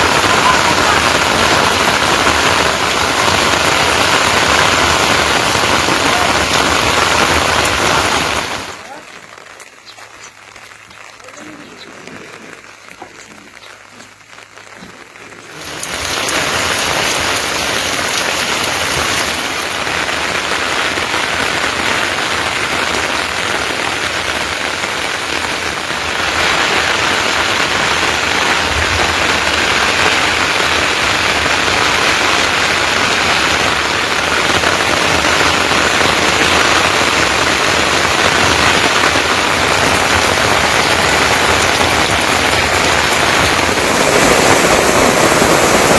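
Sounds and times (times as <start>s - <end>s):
heavy rain pattering: 0.0s - 45.9s.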